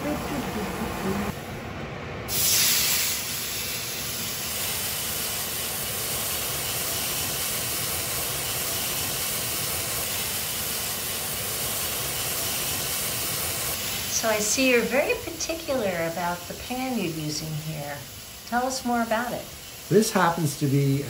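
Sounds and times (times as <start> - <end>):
steak sizzling in a skillet: 2.4 - 21.0.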